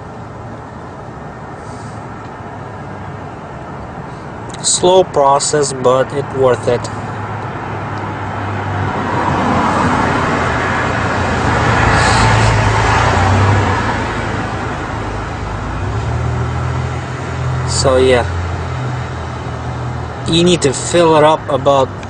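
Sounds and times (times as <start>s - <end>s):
road vehicle passing by: 0.0s - 22.0s.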